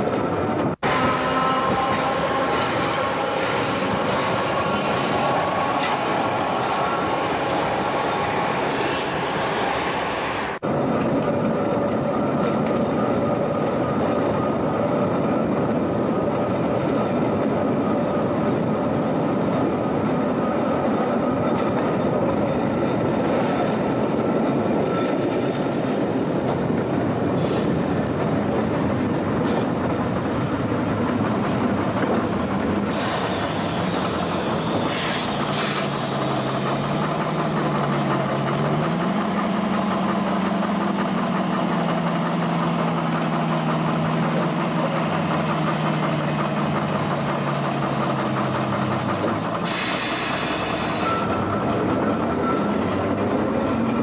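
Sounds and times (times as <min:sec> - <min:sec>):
low hum from tram: 0:00.0 - 0:54.0
tram wheels rumbling on rails: 0:00.0 - 0:54.0.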